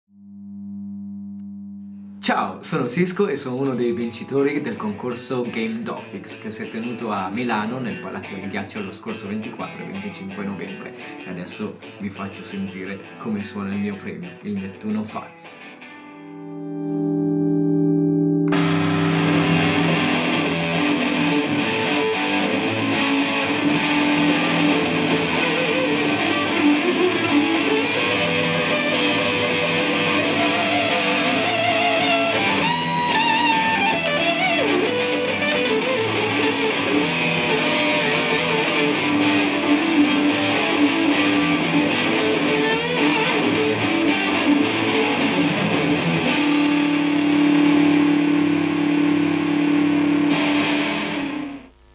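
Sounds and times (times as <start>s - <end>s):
distorted electric guitar: 1.9s - 51.9s.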